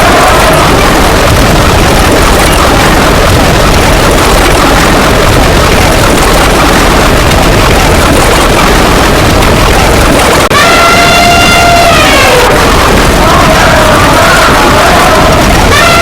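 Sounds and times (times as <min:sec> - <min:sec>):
wall of layered sound effects: 0:00.0 - 0:16.0.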